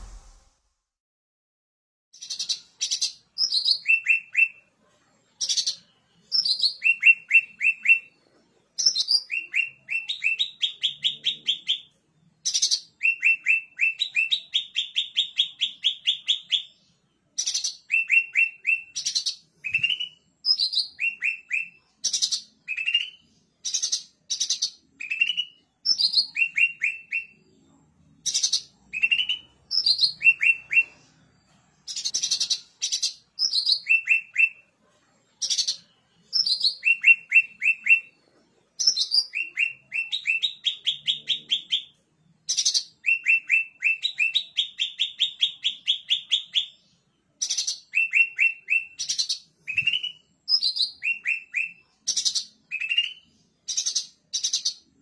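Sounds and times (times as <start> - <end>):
songbird singing: 2.2 - 4.7, 5.4 - 55.0.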